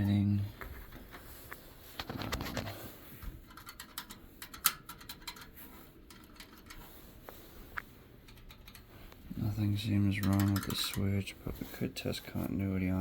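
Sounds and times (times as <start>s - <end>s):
light clicks and scraping: 0.0s - 13.0s.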